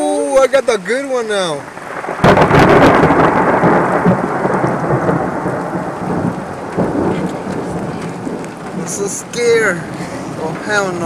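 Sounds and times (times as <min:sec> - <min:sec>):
heavy rain: 0:00.0 - 0:11.0
thunder rumbling: 0:01.3 - 0:11.0.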